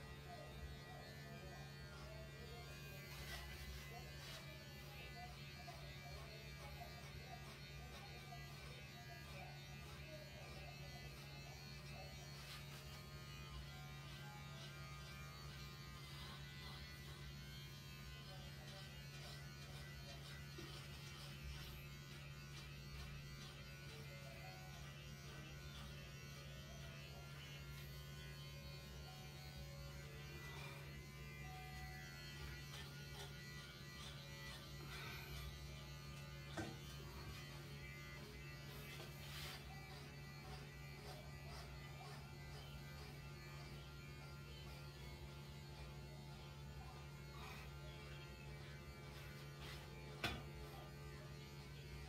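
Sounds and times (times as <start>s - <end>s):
electric clippers buzzing: 0.0s - 52.0s.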